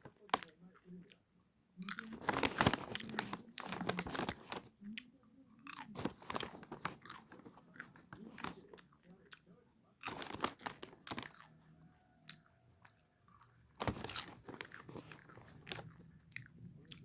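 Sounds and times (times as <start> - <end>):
popcorn crunching while chewed: 0.0 - 17.0.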